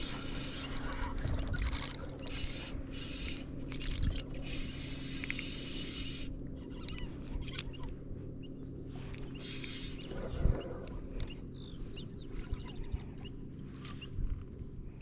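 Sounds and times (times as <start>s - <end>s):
small motor humming: 0.0s - 14.5s.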